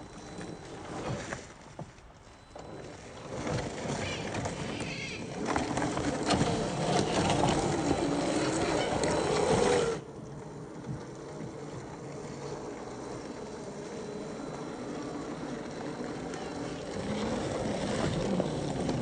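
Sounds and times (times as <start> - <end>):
electric motor and gear whine: 0.0 - 19.0.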